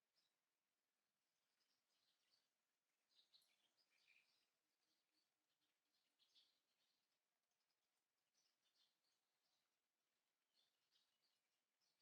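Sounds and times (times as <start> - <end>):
faint bird chirps: 1.4 - 12.0.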